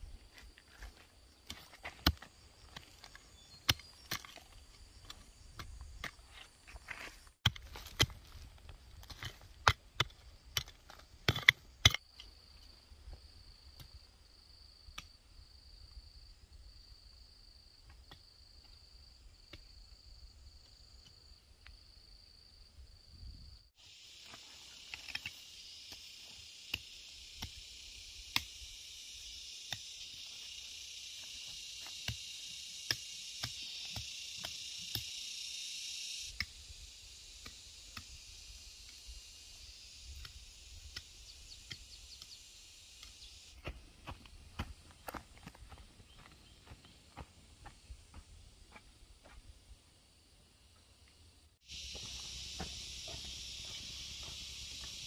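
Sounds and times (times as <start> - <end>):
high steady insect buzz: 0.0 - 8.6, 10.2 - 55.0
high insect chirp: 0.0 - 55.0.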